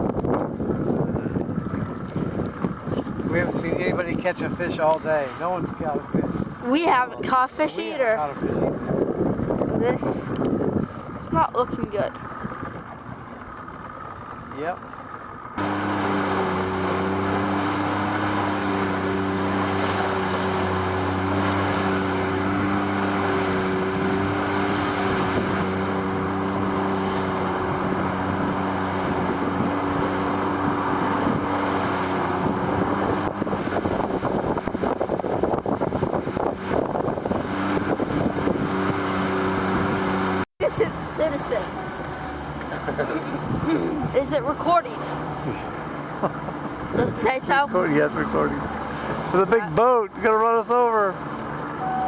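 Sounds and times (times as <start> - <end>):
wind buffeting microphone: 0.0 - 14.0, 15.4 - 42.6, 43.2 - 45.8
boat motor running: 0.0 - 52.0
water rushing: 0.0 - 52.0.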